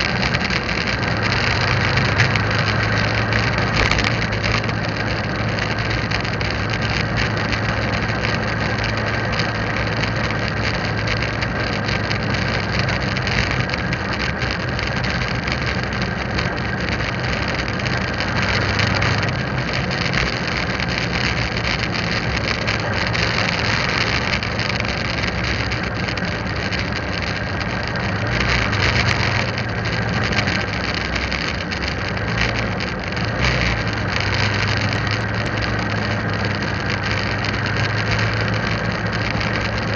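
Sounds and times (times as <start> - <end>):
motorbike engine running: 0.0 - 39.9
wind and road noise: 0.0 - 39.9.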